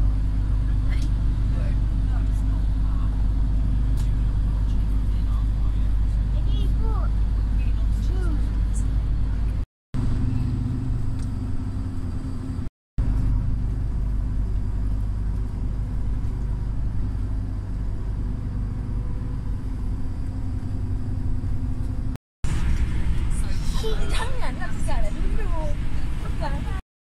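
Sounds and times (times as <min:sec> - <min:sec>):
bus engine and road rumble: 0:00.0 - 0:26.8.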